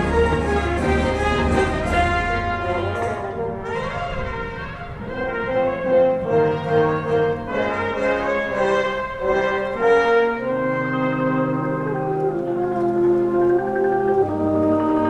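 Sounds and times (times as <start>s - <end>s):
brass playing long notes: 0.0s - 15.0s
orchestral music: 0.0s - 15.0s.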